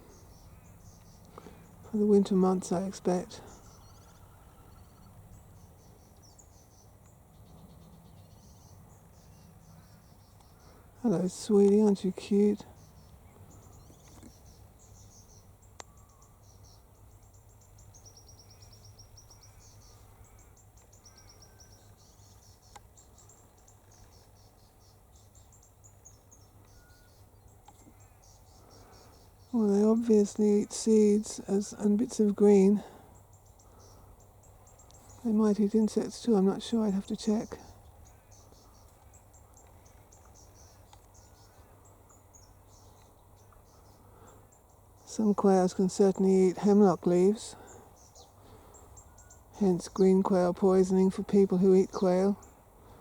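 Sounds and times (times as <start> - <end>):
low steady hum: 0.0 - 53.0
small birds twittering: 0.0 - 53.0.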